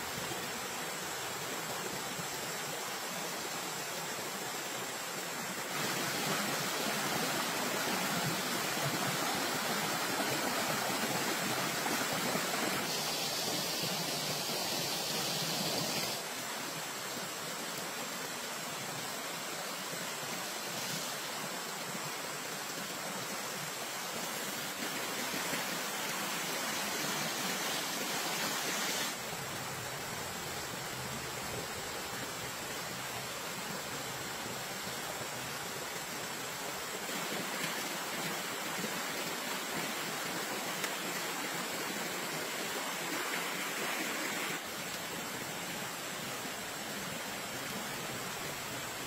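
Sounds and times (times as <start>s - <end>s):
stream flowing over stones: 0.0s - 49.0s.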